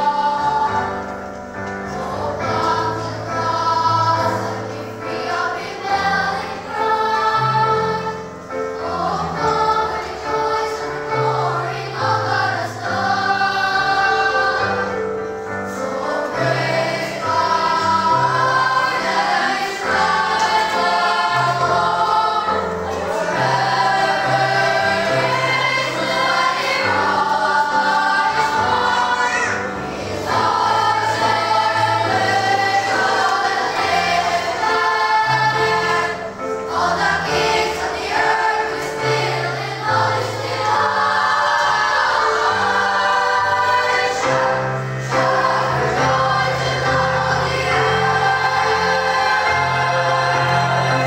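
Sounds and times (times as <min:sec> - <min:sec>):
children's choir singing: 0:00.0 - 0:51.0.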